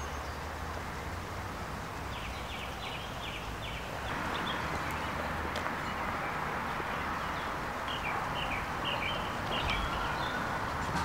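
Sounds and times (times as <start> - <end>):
park background noise: 0.0 - 11.0.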